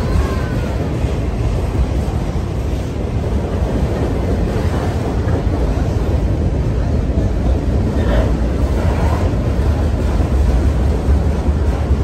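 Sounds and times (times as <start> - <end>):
train wheels rumbling on rail: 0.0 - 12.0
wind buffeting microphone: 0.0 - 12.0.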